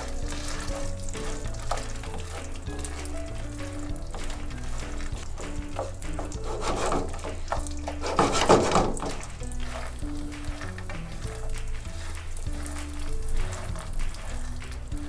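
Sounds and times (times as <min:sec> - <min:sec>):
background music: 0:00.0 - 0:15.0
peanuts sizzling in oil: 0:00.0 - 0:15.0
spoon stirring in a pan: 0:00.0 - 0:15.0.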